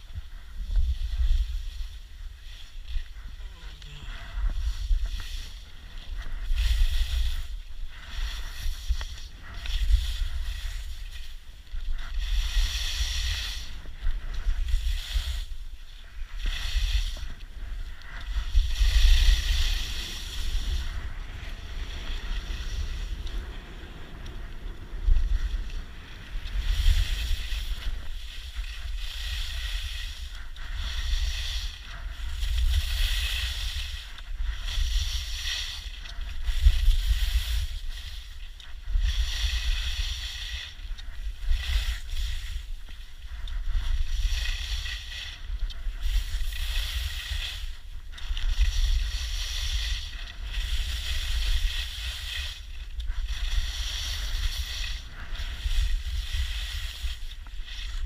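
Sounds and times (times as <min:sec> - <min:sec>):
skis scraping on snow: 0:00.0 - 0:58.0
wind rumble on microphone: 0:00.0 - 0:58.0.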